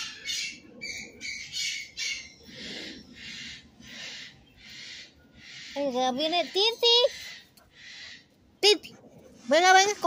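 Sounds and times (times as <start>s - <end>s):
birds squawking: 0.0s - 8.8s.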